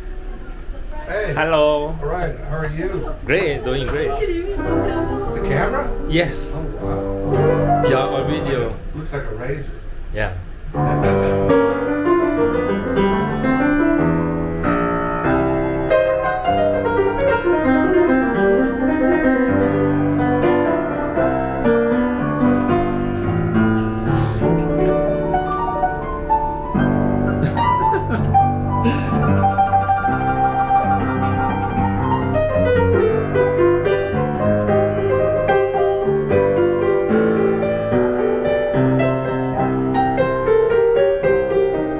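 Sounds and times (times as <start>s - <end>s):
piano piece: 0.0s - 41.9s.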